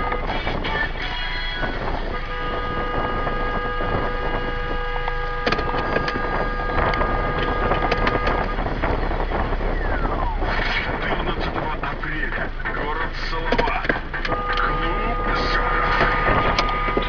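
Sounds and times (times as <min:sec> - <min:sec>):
constant car interior hum: 0:00.0 - 0:17.0
steady whining tones: 0:00.0 - 0:17.0.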